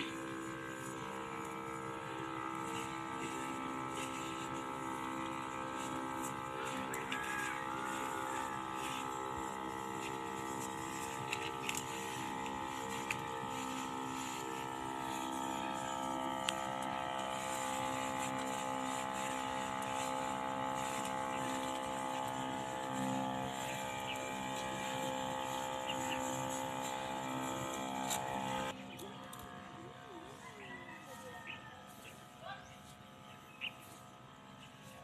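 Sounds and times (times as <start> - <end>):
small motor humming: 0.0 - 35.0.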